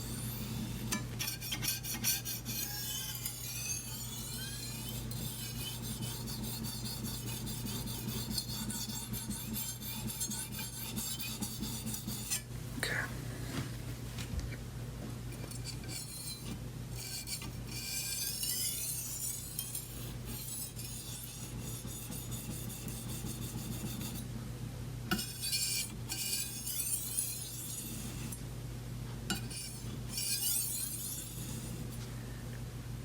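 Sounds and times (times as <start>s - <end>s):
knife stroked on sharpening stone: 0.0s - 12.5s, 15.4s - 24.2s, 25.1s - 28.4s, 29.3s - 32.0s.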